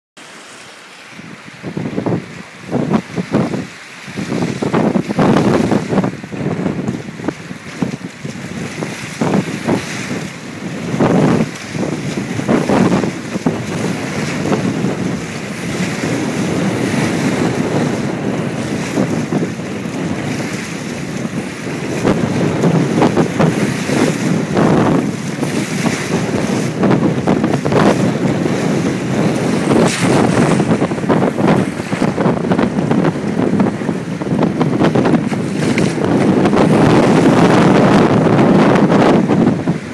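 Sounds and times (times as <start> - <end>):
waves breaking and splashing: 0.2 - 39.9
gusty wind buffeting microphone: 1.1 - 39.9.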